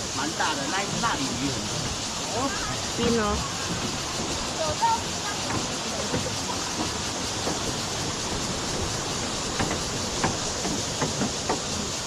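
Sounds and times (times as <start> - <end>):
creek rushing over rocks: 0.0 - 12.0.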